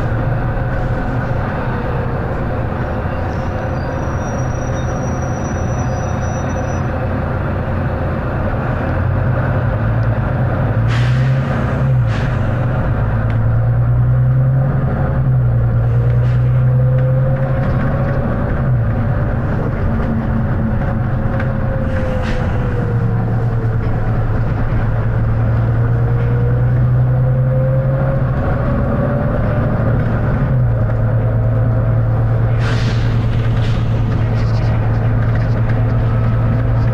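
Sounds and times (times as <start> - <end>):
bus diesel engine running: 0.0 - 36.9.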